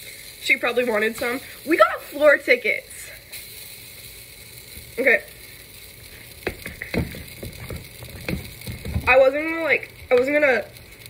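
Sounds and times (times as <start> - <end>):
batter sizzling in frying pan: 0.0 - 11.0.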